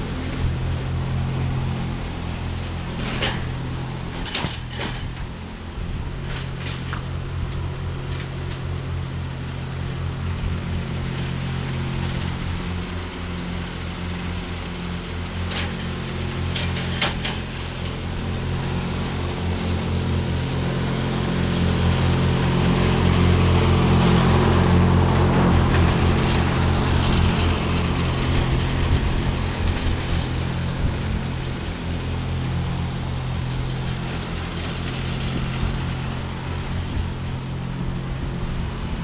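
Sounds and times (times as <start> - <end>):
lawn mower engine running: 0.0 - 39.0.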